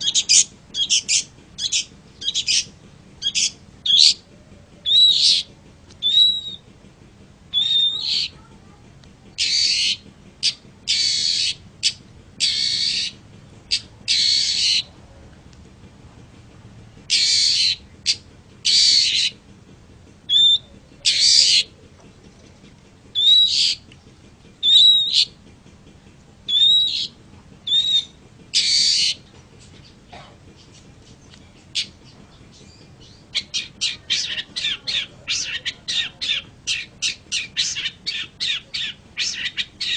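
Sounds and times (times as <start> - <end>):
bird harsh rasping calls: 0.0 - 6.7, 7.5 - 15.0, 17.0 - 19.4, 20.2 - 25.5, 26.4 - 39.9.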